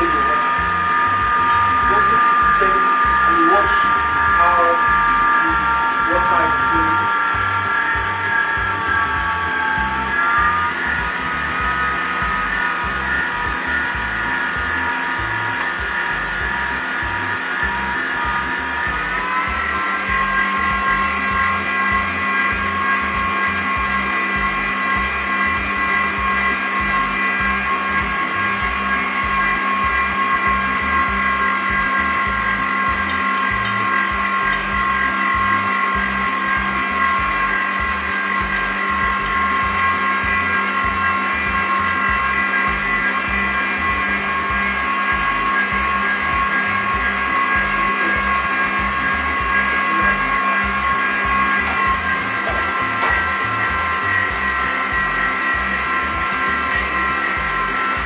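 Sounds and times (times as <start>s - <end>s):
stand mixer motor whine: 0.0s - 58.0s.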